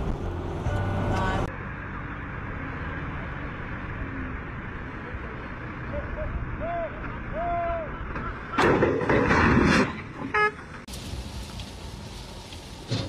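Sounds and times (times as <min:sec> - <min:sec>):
vehicle and road noise: 0:00.0 - 0:13.0.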